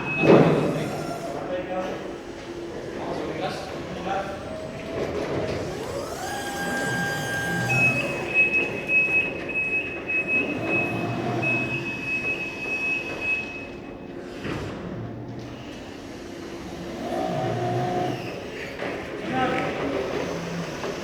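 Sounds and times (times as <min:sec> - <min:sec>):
electric truck motor whine: 0:00.0 - 0:21.0.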